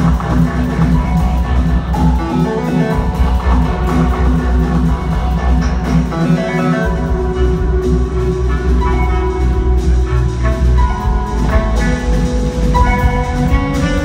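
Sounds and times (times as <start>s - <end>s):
deep bass line: 0.0s - 14.0s
live jazz band playing: 0.0s - 14.0s.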